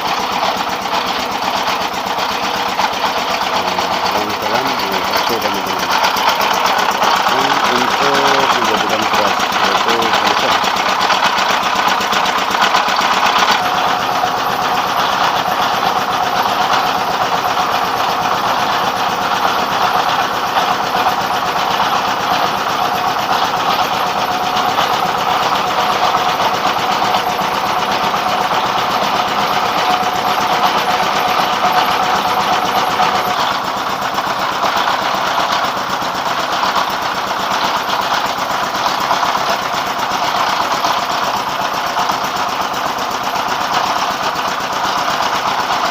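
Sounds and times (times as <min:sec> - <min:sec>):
diesel-driven rice mill running: 0:00.0 - 0:45.9.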